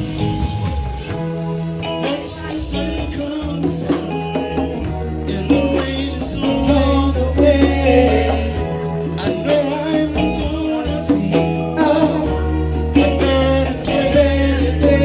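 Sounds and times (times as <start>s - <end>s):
congas: 0.0s - 15.0s
drum kit: 0.0s - 15.0s
electric bass: 0.0s - 15.0s
person singing: 1.8s - 15.0s.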